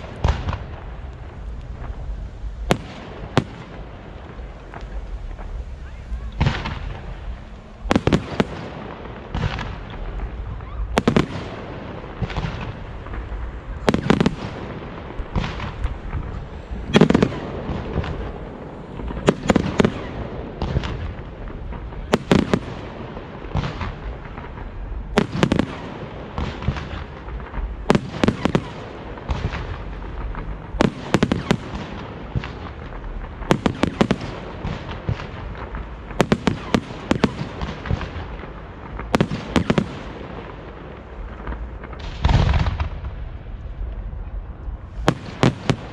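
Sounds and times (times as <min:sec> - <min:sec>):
fireworks bangs: 0:00.0 - 0:45.9
rumble and crackle: 0:00.0 - 0:45.9.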